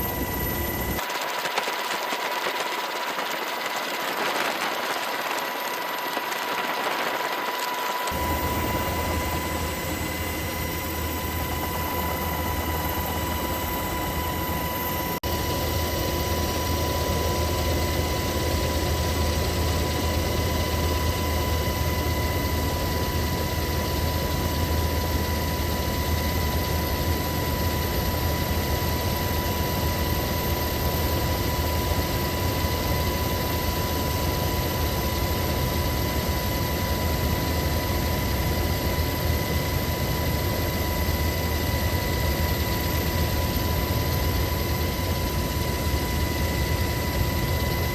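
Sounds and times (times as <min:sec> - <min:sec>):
engine drone with high whine: 0:00.0 - 0:47.9.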